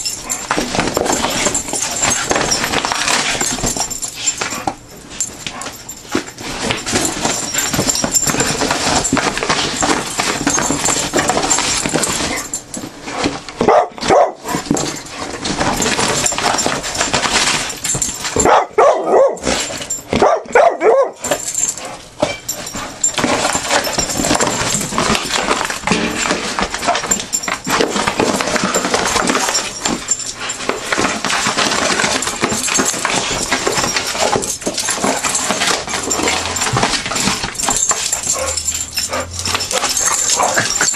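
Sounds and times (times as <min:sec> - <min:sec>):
dogs barking and whining: 0:00.0 - 0:40.9.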